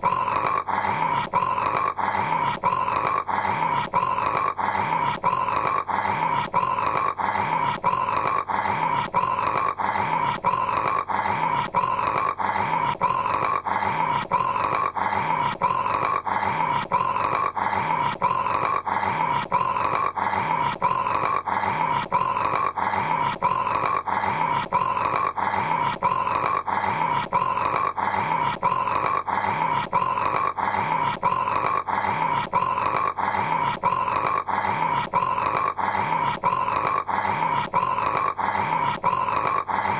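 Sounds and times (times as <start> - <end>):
man snoring: 0.0 - 39.9.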